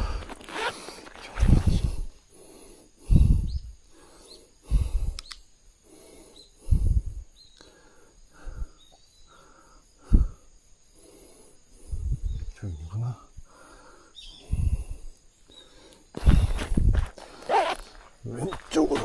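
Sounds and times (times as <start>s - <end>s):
person breathing hard: 0.0s - 1.0s, 1.8s - 5.2s, 5.8s - 12.2s, 13.3s - 17.6s.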